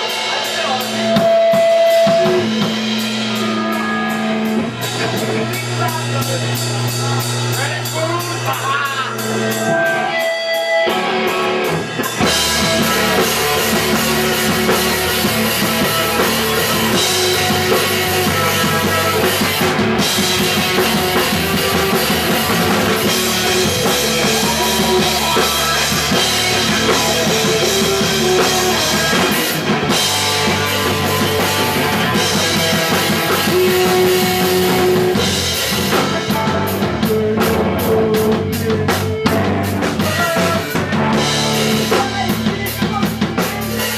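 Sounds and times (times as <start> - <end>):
punk rock band playing live: 0.0 - 43.9.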